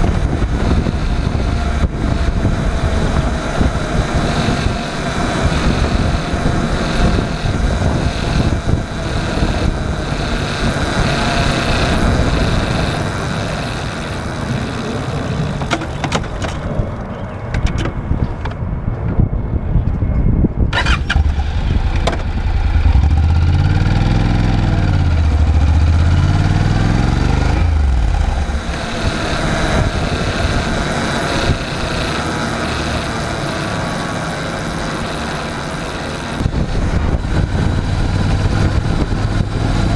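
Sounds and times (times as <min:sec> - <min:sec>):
motorcycle engine revving: 0:00.0 - 0:16.7, 0:20.7 - 0:39.9
microphone wind noise: 0:00.0 - 0:39.9.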